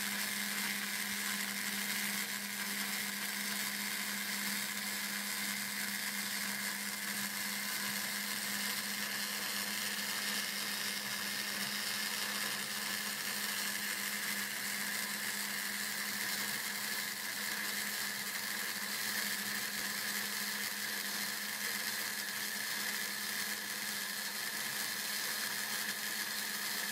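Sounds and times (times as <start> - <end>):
router motor whine: 0.0 - 26.9.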